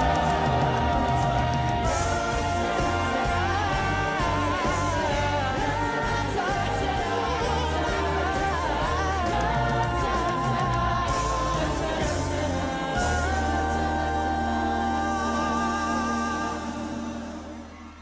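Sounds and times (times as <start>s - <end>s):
bass-driven backing: 0.0s - 18.0s
choir harmony: 0.0s - 18.0s
vocal group singing: 0.0s - 18.0s.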